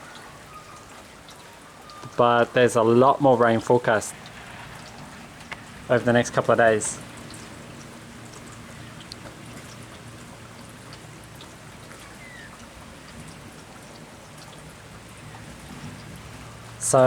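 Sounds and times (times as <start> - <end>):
creek trickling: 0.0 - 17.0
water drips: 0.0 - 17.0.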